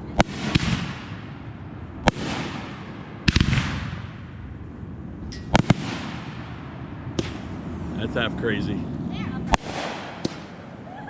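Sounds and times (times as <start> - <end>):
crackling hiss of fireworks: 0.0 - 4.4, 5.5 - 8.8, 9.4 - 10.8.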